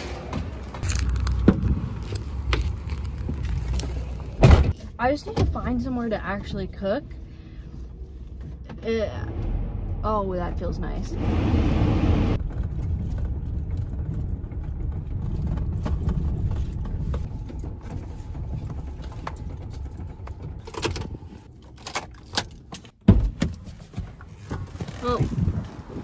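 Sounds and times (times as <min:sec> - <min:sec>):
engine and road rumble: 0:00.0 - 0:26.0.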